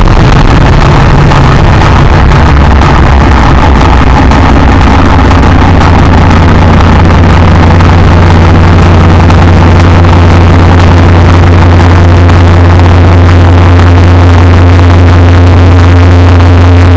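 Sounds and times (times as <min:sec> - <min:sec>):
harsh electronic drone: 0:00.0 - 0:16.9.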